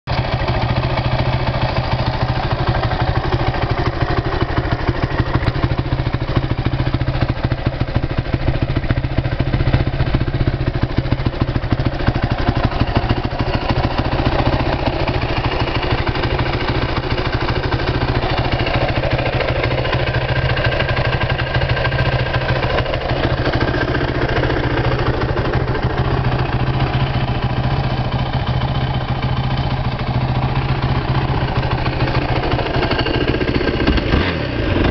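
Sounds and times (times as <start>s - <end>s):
quad engine idling: 0.1s - 34.9s.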